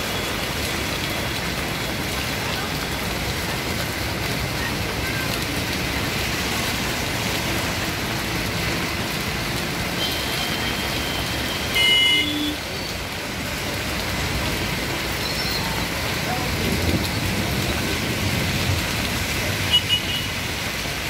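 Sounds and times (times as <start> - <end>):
heavy rain hissing on road: 0.0 - 21.0
vehicles driving through water: 0.0 - 21.0.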